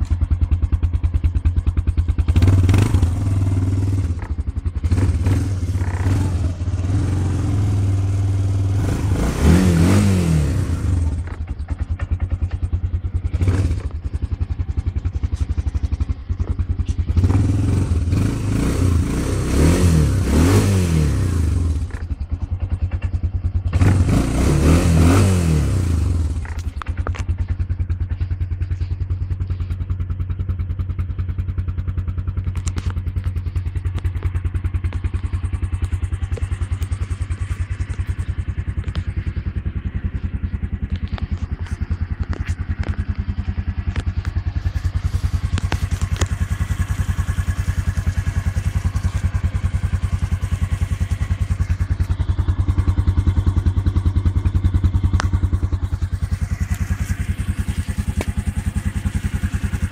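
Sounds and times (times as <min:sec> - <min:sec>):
atv engine idling and revving: 0:00.0 - 0:59.9.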